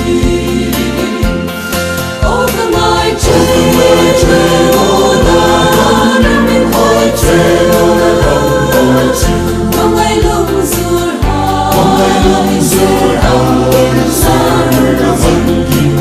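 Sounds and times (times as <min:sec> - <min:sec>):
backing music with steady beat: 0:00.0 - 0:16.0
voices singing a hymn: 0:00.0 - 0:16.0.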